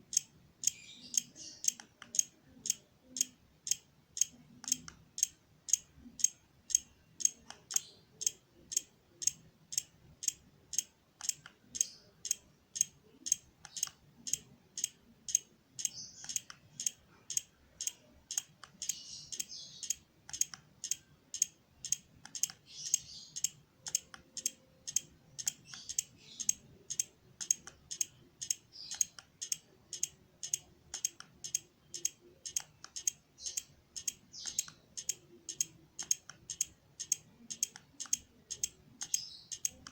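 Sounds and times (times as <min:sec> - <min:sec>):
sharp clicking: 0:00.1 - 0:39.9.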